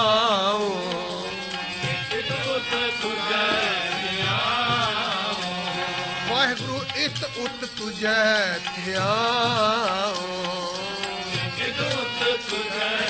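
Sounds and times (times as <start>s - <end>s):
harmonium tones: 0.0s - 13.0s
man singing: 0.0s - 13.0s
tabla: 0.0s - 13.0s.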